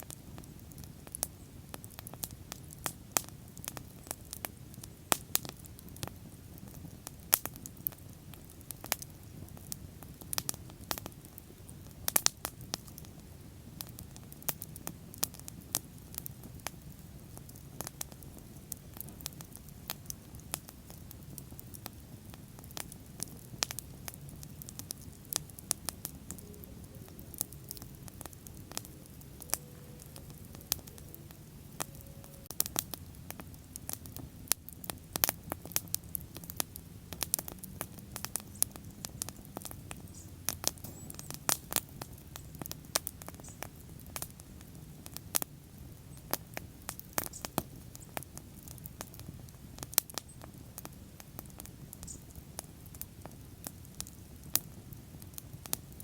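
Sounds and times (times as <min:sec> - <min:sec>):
bonfire crackling and popping: 0:00.0 - 0:56.0
low rumble of flames: 0:00.0 - 0:56.0.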